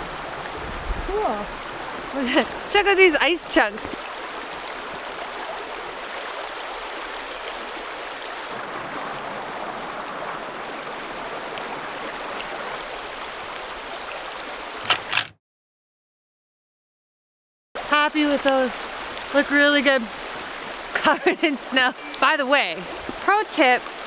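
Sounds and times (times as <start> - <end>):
river water rushing: 0.0 - 15.3, 17.8 - 24.0.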